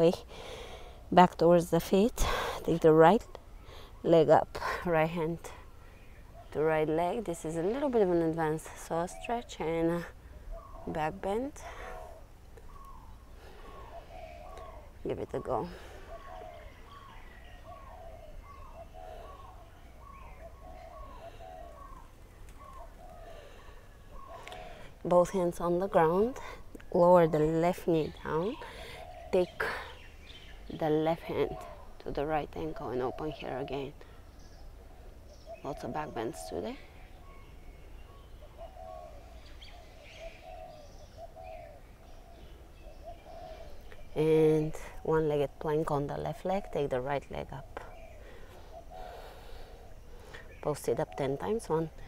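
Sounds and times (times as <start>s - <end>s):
bird chirps: 4.7s - 52.0s
dove cooing: 8.9s - 34.2s, 34.8s - 52.0s.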